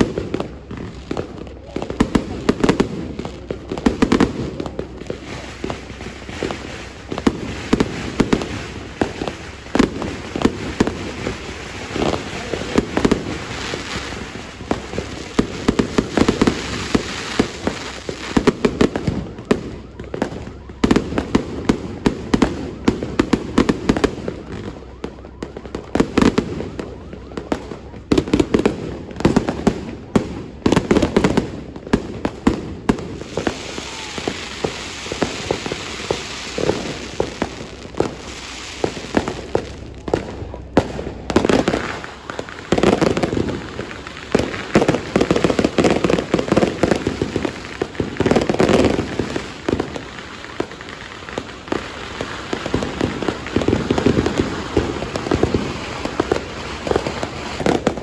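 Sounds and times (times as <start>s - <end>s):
fireworks bangs and pops: 0.0s - 58.0s
fireworks hissing crackle: 0.0s - 58.0s.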